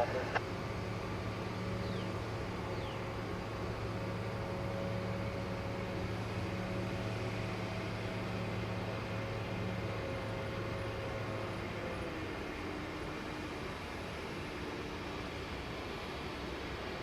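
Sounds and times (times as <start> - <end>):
machine drone with low hum: 0.0 - 17.0.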